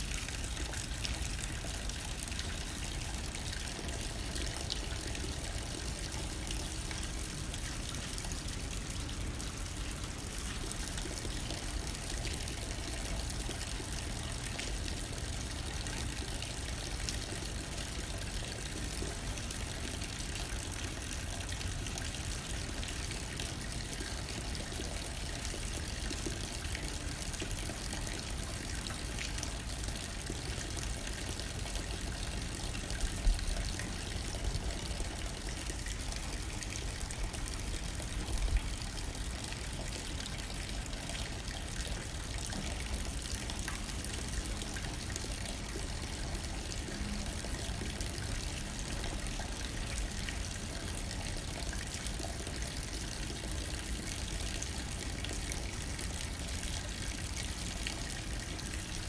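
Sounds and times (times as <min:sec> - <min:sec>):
light wind: 0:00.0 - 0:59.0
rain on a window pane: 0:00.0 - 0:59.0.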